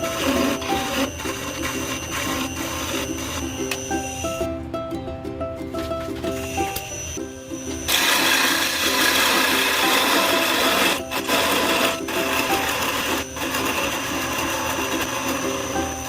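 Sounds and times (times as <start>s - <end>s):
wood lathe scraping hiss: 0.0s - 4.4s, 6.4s - 16.0s
background music: 0.0s - 16.0s.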